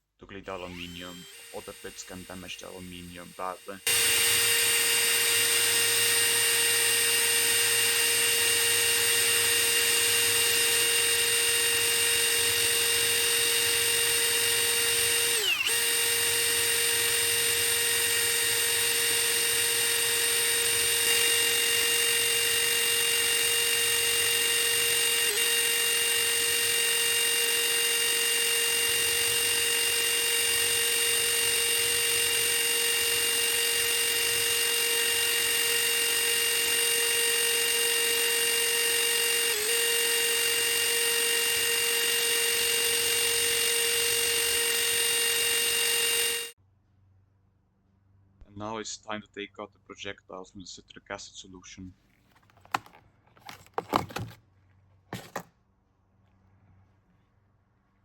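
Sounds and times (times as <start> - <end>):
electric drill with wire brush: 0.5 - 46.6, 52.6 - 54.4, 55.2 - 55.5.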